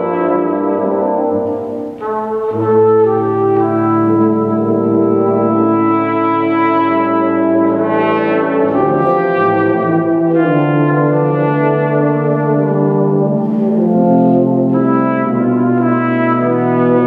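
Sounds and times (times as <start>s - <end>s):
trumpet: 0.0s - 17.0s
tuba and euphonium chords: 0.0s - 17.0s.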